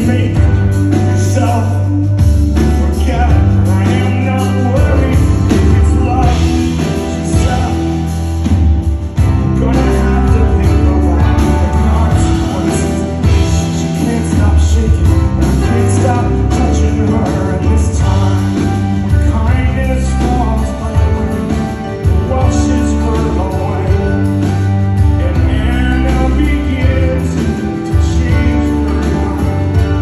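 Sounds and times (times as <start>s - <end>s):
live rock band playing: 0.0s - 30.0s
man singing: 0.0s - 30.0s.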